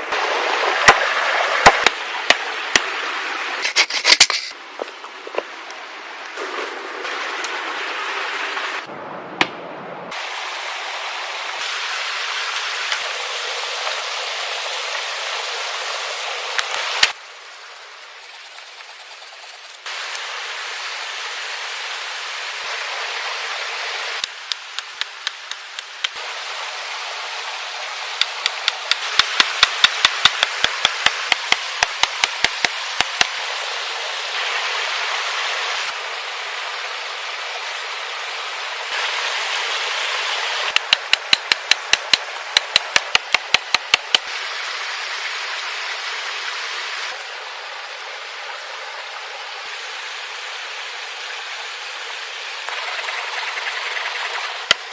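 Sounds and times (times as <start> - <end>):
steady rushing hiss: 0.0 - 8.9, 10.1 - 54.9.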